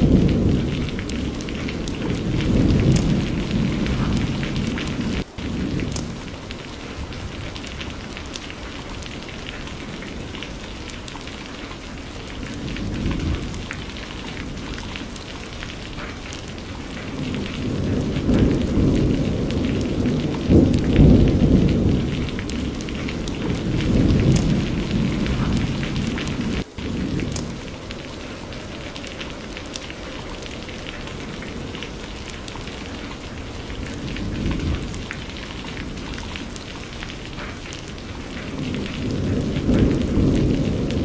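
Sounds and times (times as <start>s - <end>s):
low rolling thunder: 0.0s - 41.0s
rain pattering: 0.0s - 41.0s.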